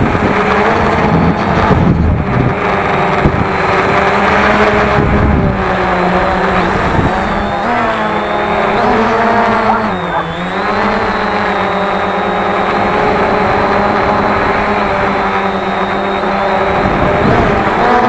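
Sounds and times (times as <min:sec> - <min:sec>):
wind buffeting: 0:00.0 - 0:17.9
drone motors whining: 0:00.0 - 0:18.0.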